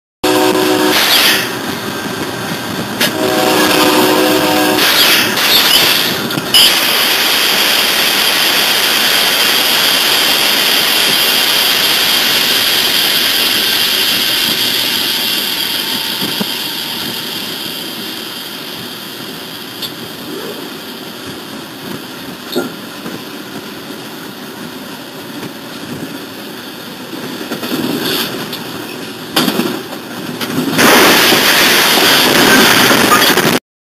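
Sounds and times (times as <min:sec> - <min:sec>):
train crash and grinding: 0:00.2 - 0:33.6
train rushing along track: 0:00.2 - 0:33.6.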